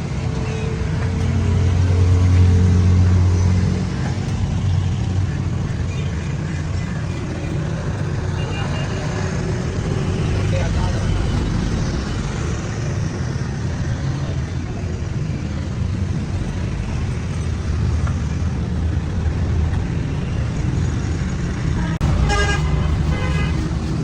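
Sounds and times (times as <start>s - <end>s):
vehicle engines and road traffic: 0.0s - 24.0s.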